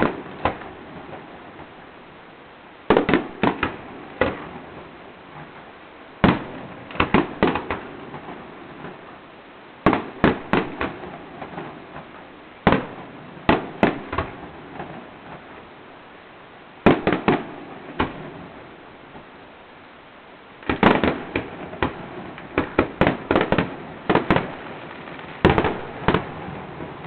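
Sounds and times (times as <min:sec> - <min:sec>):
fireworks bursting with bangs: 0:00.0 - 0:02.1, 0:02.8 - 0:09.2, 0:09.8 - 0:16.0, 0:16.8 - 0:19.4, 0:20.6 - 0:27.0
low crackle: 0:00.0 - 0:27.0.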